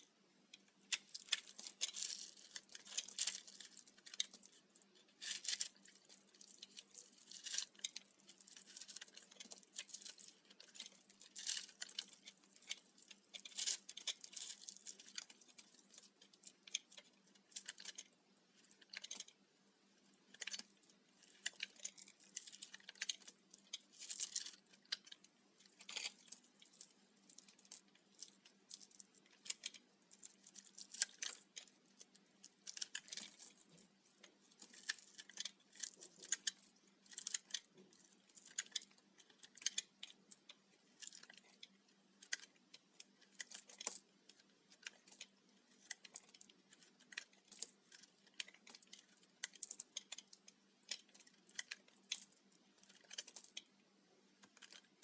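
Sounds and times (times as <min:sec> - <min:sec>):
brittle soap crackling and crunching: 0:00.0 - 0:55.0.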